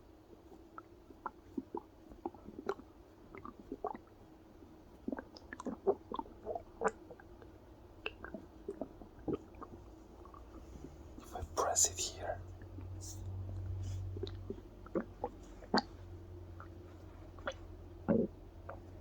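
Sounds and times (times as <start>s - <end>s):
stomach gurgling: 0.0s - 11.6s, 13.7s - 19.0s
faint steady hum: 0.0s - 19.0s.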